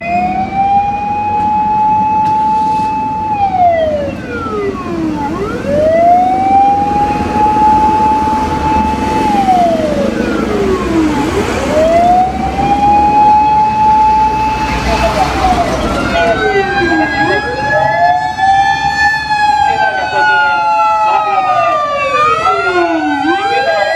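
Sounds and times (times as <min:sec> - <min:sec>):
fire engine siren wailing: 0:00.0 - 0:23.9.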